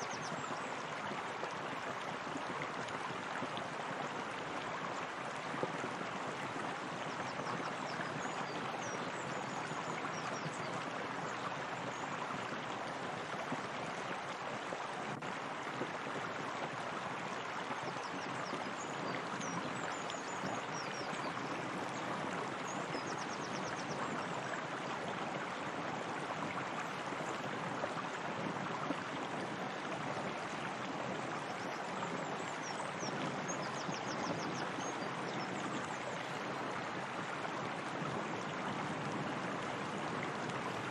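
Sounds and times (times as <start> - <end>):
running water rushing and splashing: 0.0 - 40.9.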